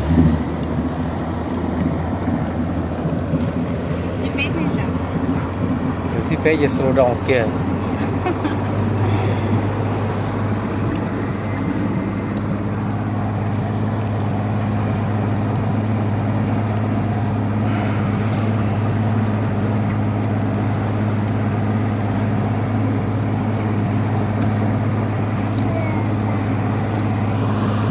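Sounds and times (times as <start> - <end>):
boat motor running: 0.0 - 27.9.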